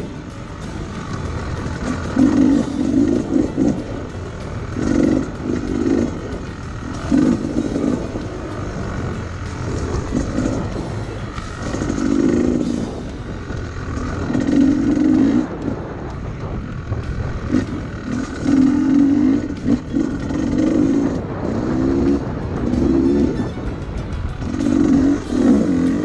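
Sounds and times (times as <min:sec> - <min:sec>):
low engine rumble: 0:00.0 - 0:26.0
motorcycle engines revving: 0:00.0 - 0:26.0.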